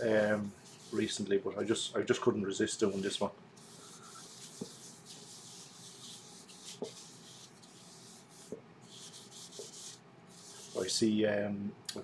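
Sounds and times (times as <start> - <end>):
cloth rubbing a wooden bowl: 0.0 - 1.9, 2.8 - 11.0.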